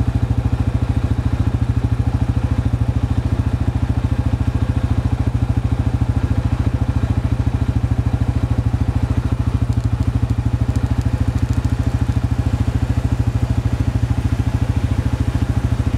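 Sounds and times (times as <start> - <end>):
diesel locomotive engine idling: 0.0 - 15.9.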